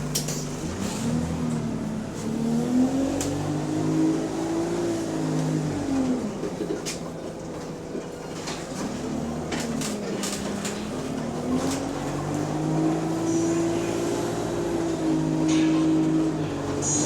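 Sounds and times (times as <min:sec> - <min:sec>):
bus engine revving: 0:00.0 - 0:07.0, 0:08.8 - 0:17.0.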